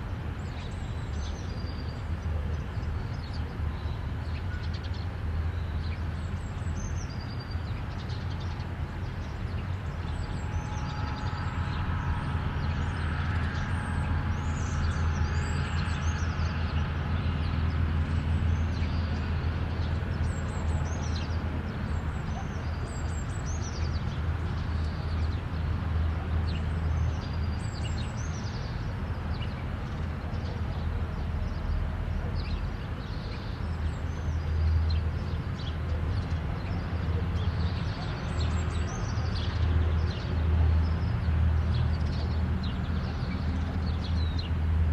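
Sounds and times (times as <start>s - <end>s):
highway traffic rumble: 0.0s - 44.9s.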